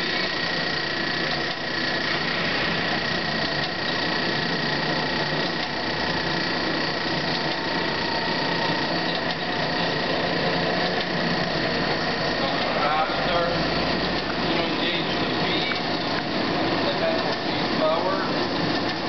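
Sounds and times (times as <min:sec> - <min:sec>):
band saw running with high whine: 0:00.0 - 0:19.0.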